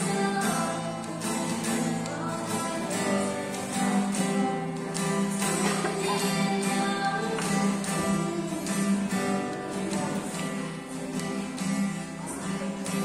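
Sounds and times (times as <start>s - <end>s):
acoustic guitar strumming: 0.0s - 13.0s
girl singing: 0.0s - 13.0s.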